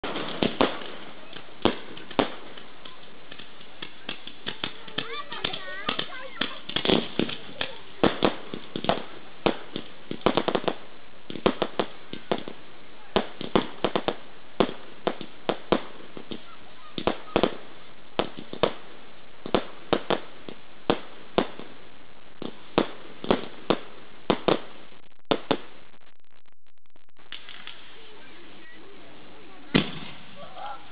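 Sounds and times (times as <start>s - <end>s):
fireworks bangs: 0.0s - 26.1s, 27.1s - 30.9s.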